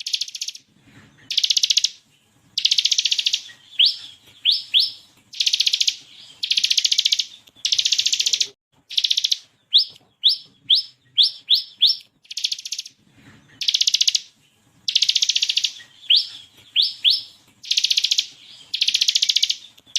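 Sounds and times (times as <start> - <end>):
sharp upswept bird notes: 0.0 - 0.6, 1.2 - 2.0, 2.6 - 13.0, 13.6 - 14.3, 14.9 - 19.9
bird singing buzzy trills: 0.0 - 19.9.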